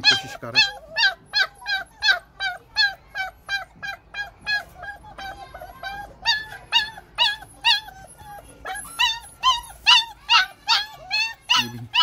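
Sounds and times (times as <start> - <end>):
puppy whining: 0.0 - 12.0.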